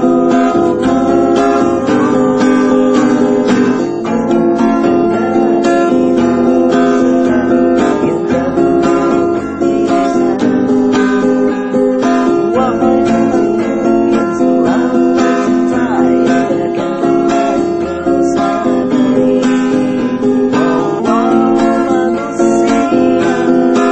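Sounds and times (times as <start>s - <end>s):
acoustic guitar strumming chords: 0.0s - 23.9s.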